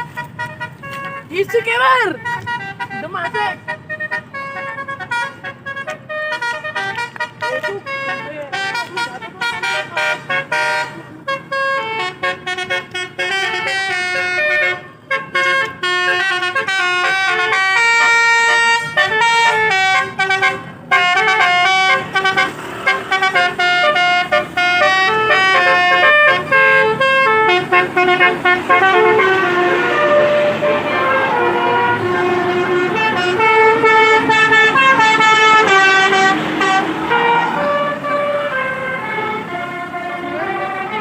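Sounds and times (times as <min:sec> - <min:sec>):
bus horns tooting a tune: 0:00.0 - 0:41.0.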